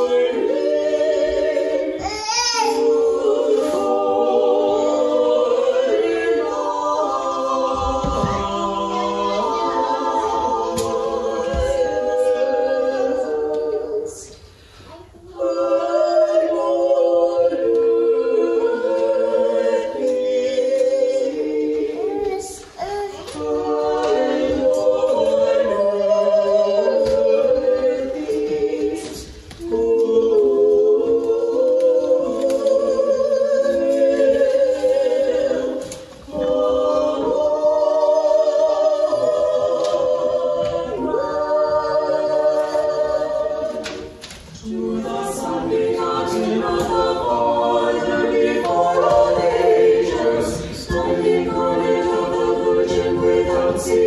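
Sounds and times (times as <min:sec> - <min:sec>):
choir singing chant: 0:00.0 - 0:54.0.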